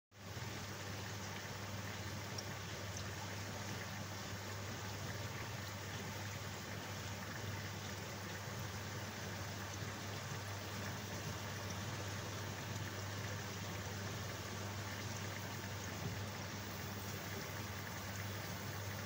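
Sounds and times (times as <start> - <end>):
aquarium equipment hum: 0.2 - 19.0.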